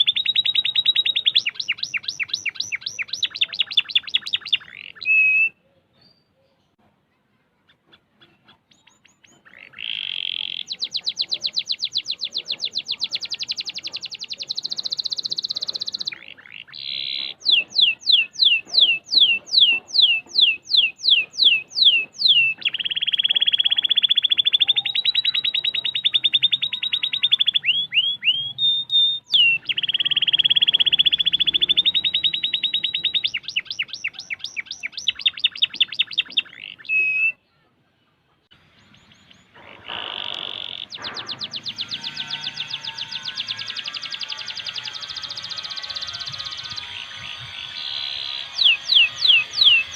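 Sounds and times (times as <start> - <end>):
canary singing trills: 0.0 - 6.8, 7.6 - 37.7, 38.5 - 49.9.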